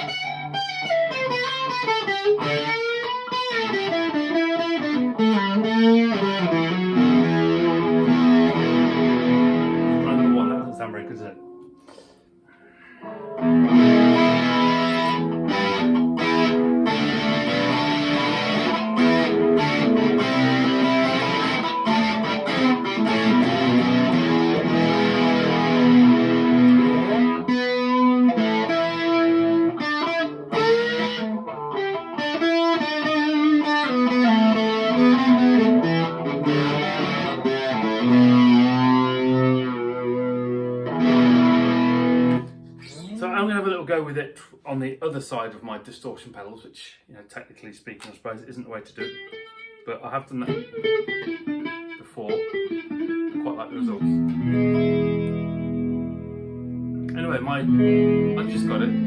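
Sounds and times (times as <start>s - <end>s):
distorted electric guitar chords: 0.0s - 43.2s, 49.0s - 59.0s.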